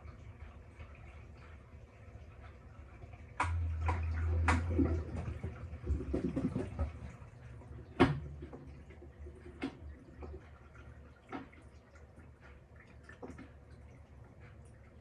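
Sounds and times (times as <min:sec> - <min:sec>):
washing machine motor humming: 0:00.0 - 0:15.0
water sloshing and dripping: 0:00.0 - 0:15.0.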